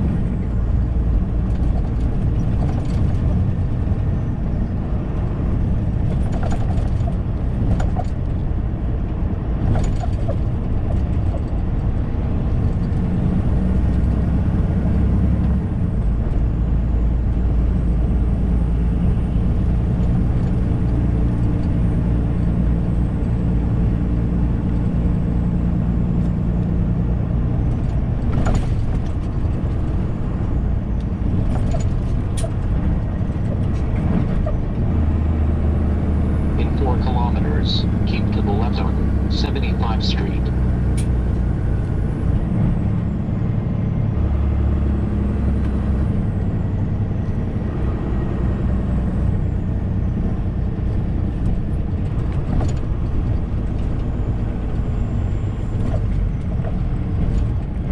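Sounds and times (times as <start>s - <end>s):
road rumble: 0.0s - 57.9s
truck engine drone: 0.0s - 57.9s.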